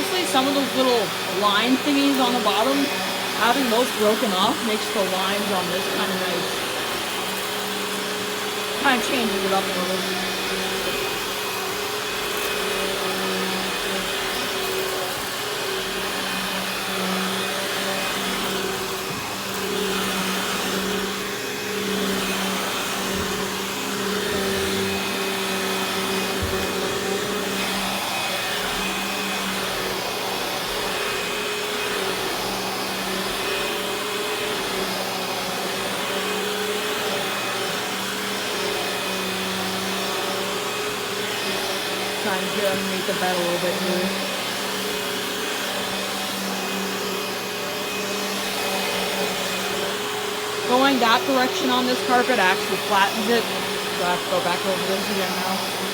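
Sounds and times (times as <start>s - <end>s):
vacuum cleaner on carpet: 0.0s - 55.9s.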